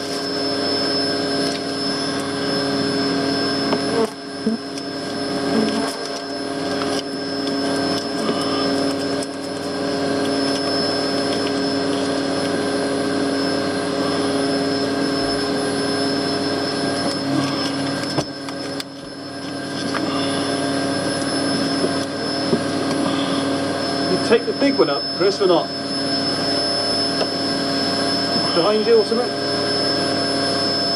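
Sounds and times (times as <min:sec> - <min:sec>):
vacuum cleaner motor humming: 0:00.0 - 0:30.9.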